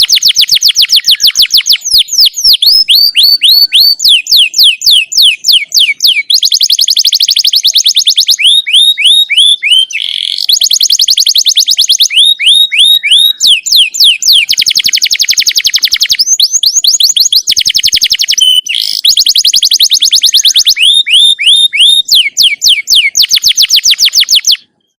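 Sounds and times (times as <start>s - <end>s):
songbird fast trills: 0.0s - 24.9s
songbird whistled notes: 0.0s - 24.9s.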